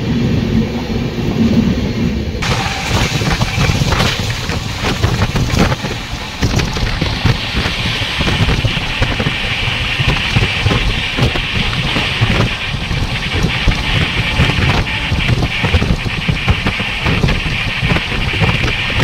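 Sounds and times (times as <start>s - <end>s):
train rumbling on rails: 0.0s - 19.0s
wind buffeting microphone: 0.0s - 19.0s
hiss: 2.4s - 19.0s.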